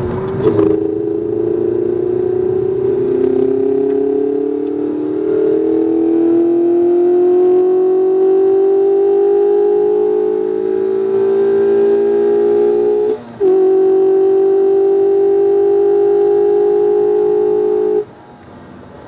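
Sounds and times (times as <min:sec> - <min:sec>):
car engine accelerating: 0:00.0 - 0:18.6.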